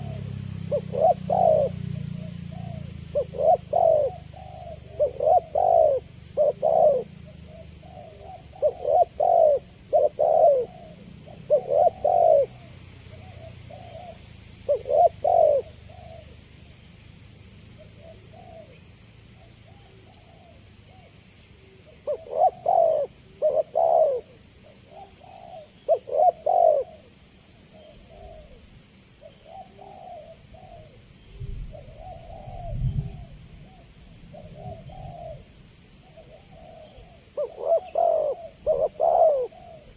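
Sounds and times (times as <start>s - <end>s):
dove cooing: 0.0s - 16.4s, 17.8s - 39.9s.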